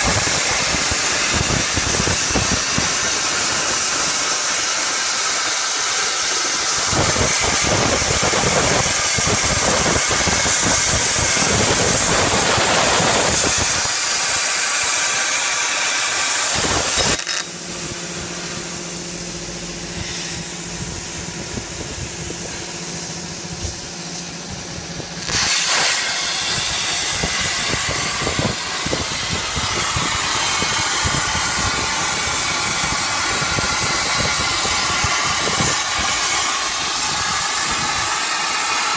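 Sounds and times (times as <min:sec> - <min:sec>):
plasma torch arc hissing: 0:00.0 - 0:38.9
steady hum: 0:00.0 - 0:38.9.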